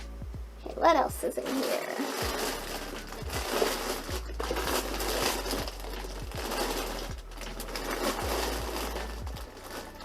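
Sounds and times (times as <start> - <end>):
packaging rustling and crinkling: 1.2 - 10.0.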